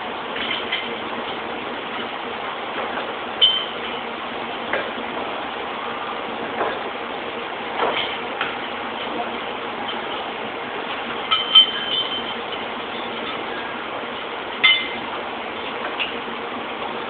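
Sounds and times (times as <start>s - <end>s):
factory machinery noise: 0.0s - 17.0s.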